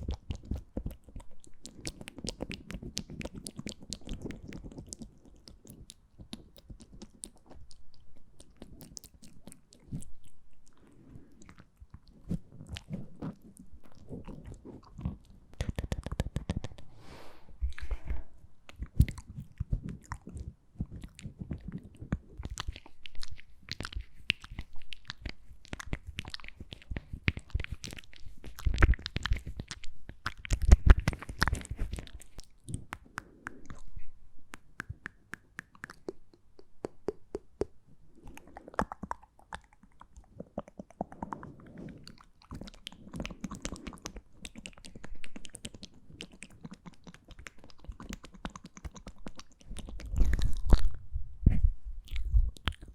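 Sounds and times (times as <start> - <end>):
wet mouth clicks and smacks: 0.0 - 16.9, 17.7 - 52.9.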